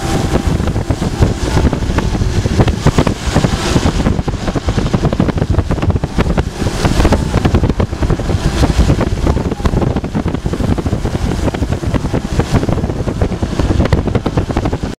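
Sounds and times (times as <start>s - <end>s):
moving car rumble: 0.0s - 15.0s
wind buffeting microphone: 0.0s - 15.0s.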